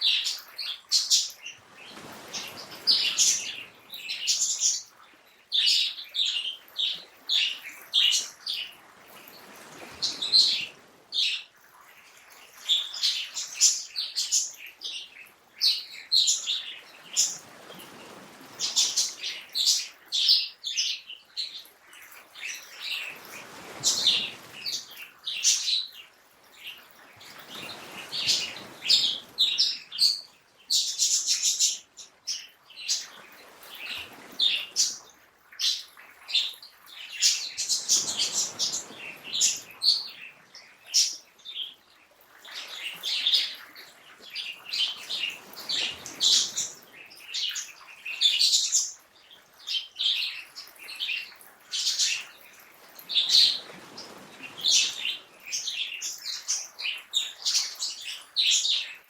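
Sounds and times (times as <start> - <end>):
birds chirping: 0.0 - 4.9, 5.6 - 11.5, 22.4 - 59.0.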